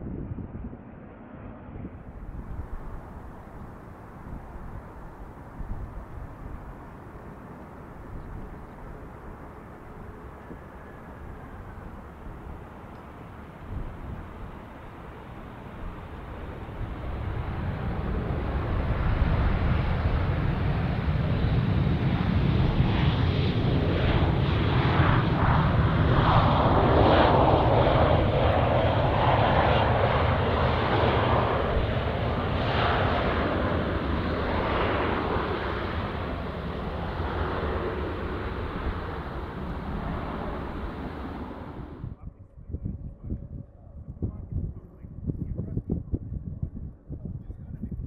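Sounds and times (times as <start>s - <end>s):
jet airliner engines rumbling: 0.0s - 48.0s.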